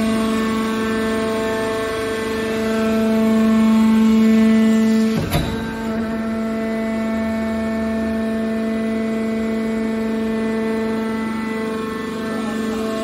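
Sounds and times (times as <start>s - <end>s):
hydraulic pump motor hum: 0.0s - 13.0s.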